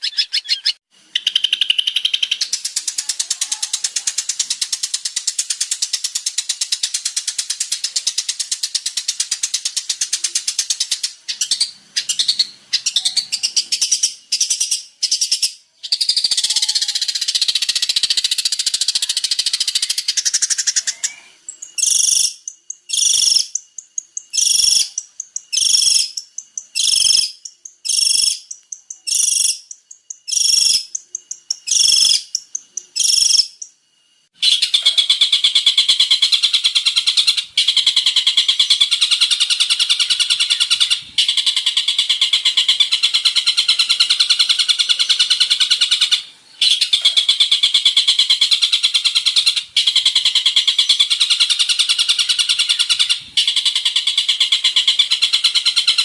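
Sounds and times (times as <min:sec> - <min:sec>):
bird harsh chatter: 0:00.0 - 0:23.5, 0:34.4 - 0:56.0.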